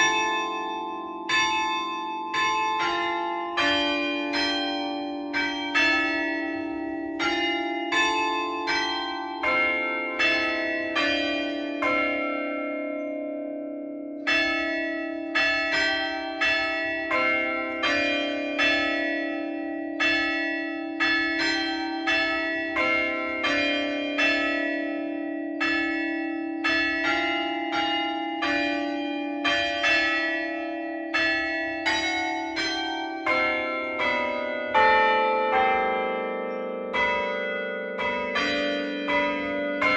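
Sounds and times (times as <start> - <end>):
church bells ringing a tune: 0.0 - 39.9.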